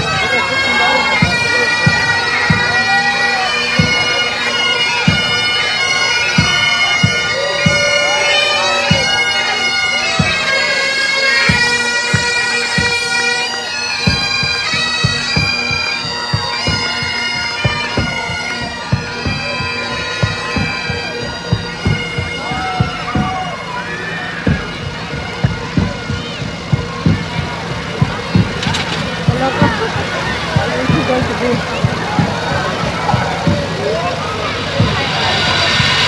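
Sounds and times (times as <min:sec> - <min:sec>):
bagpipes playing melody: 0:00.0 - 0:36.0
drum beats: 0:00.0 - 0:36.0.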